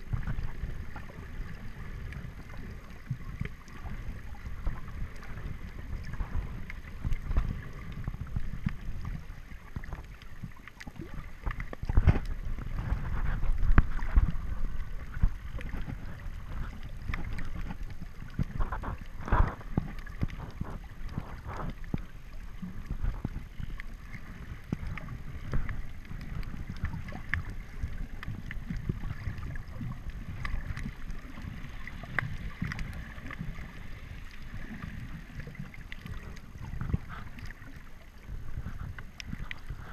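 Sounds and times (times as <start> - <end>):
underwater clicks and knocks: 0.0 - 39.9
underwater rumble of moving water: 0.0 - 39.9.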